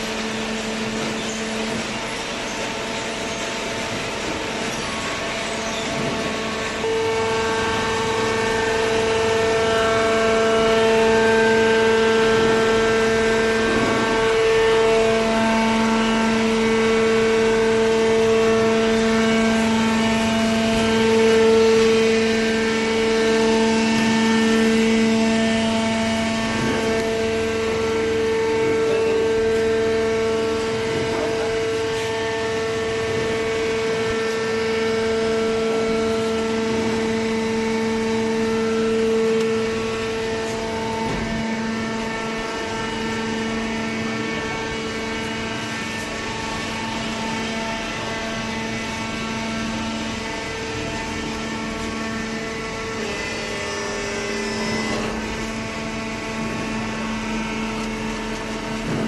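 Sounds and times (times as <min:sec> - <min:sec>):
electric motor hum: 0:00.0 - 0:59.0.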